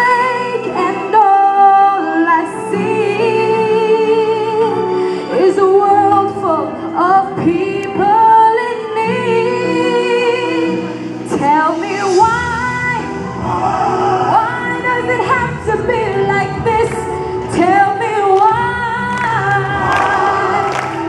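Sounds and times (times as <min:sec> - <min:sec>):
girl singing into microphone: 0:00.0 - 0:13.1, 0:14.3 - 0:21.0
instrumental backing music: 0:00.0 - 0:21.0.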